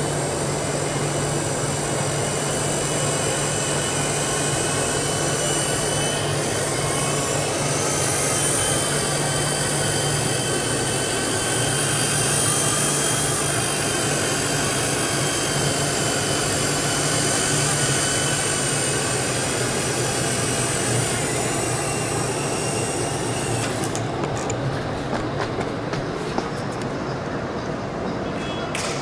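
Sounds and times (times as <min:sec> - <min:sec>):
low rotor hum: 0:00.0 - 0:28.2
high electric motor whine: 0:00.0 - 0:29.0.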